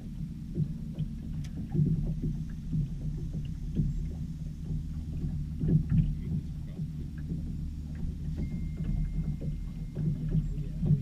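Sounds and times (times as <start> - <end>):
boat engine hum: 0.0 - 11.0
water lapping against hull: 0.0 - 11.0
small irregular knocks: 0.5 - 11.0.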